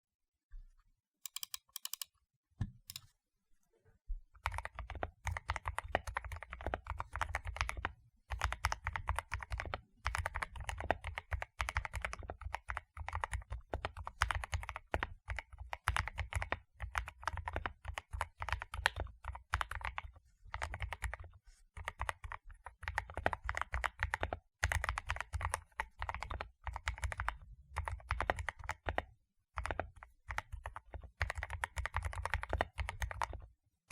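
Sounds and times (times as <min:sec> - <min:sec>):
mechanical keyboard typing: 0:01.3 - 0:02.1, 0:04.4 - 0:21.2, 0:21.8 - 0:33.4.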